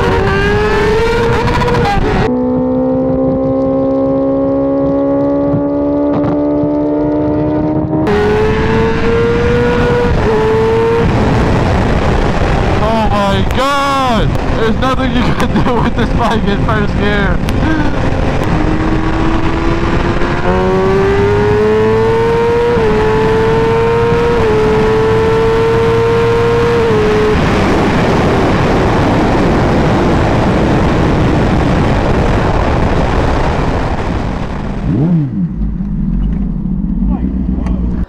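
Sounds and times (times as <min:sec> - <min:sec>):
motorcycle engine at full throttle: 0:00.0 - 0:38.0
wind rushing over microphone: 0:00.0 - 0:38.0.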